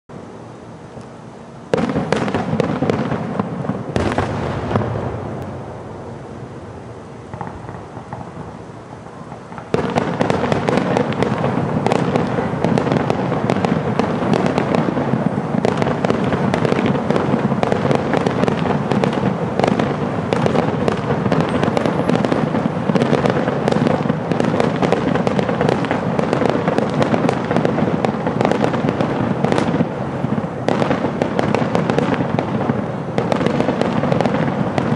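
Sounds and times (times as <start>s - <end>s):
fireworks crackle: 0.9s - 34.9s.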